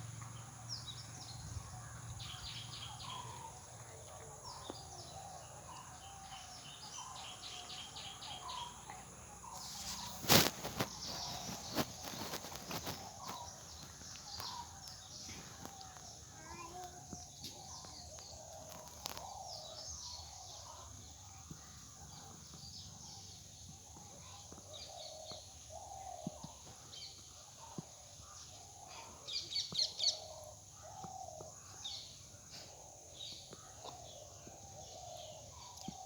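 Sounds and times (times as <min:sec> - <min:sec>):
birds chirping and calling: 0:00.0 - 0:36.0.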